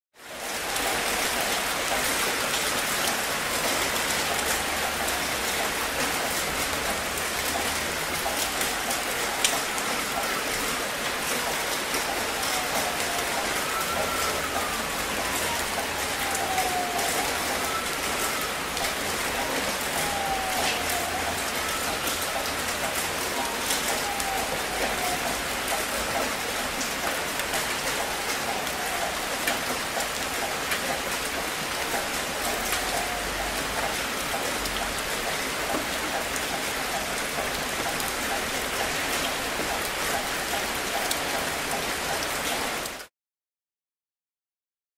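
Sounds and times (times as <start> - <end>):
steady rain falling: 0.2 - 43.1
distant ambulance siren wailing: 0.3 - 43.1
raindrops ticking: 0.4 - 43.1.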